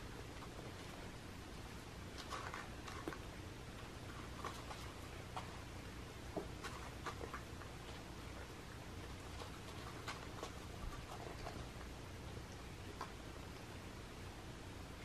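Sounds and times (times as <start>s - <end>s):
cats crunching dry kibble: 0.0s - 13.7s
low steady hum: 0.0s - 15.0s.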